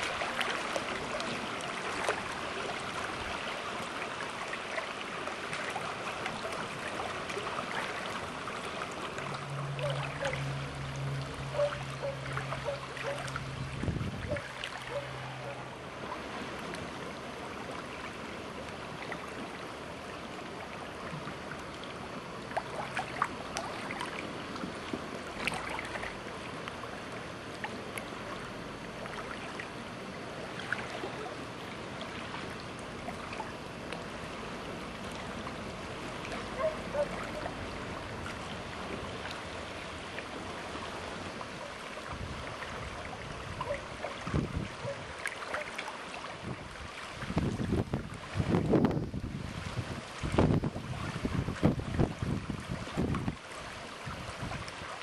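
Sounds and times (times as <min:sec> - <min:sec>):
water noise: 0:00.0 - 0:55.0
wind: 0:00.0 - 0:55.0.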